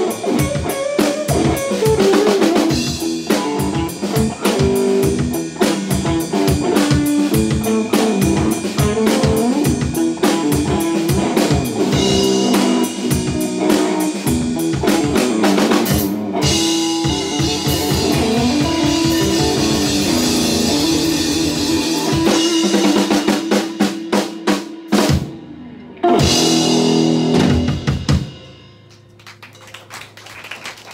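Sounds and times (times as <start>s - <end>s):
electric guitar blues: 0.0s - 28.4s
drum kit: 0.0s - 30.9s.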